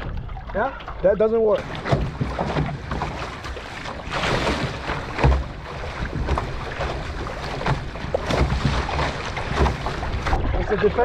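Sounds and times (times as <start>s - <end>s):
low thumps: 0.0s - 11.0s
water splashing against hull: 0.0s - 11.0s.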